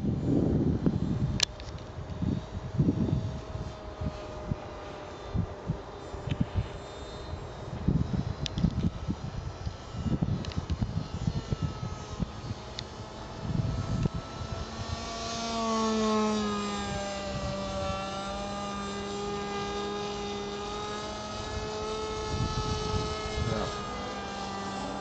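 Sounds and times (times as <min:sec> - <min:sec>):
model airplane motor whining: 0:00.0 - 0:25.0
wind buffeting microphone: 0:00.0 - 0:25.0.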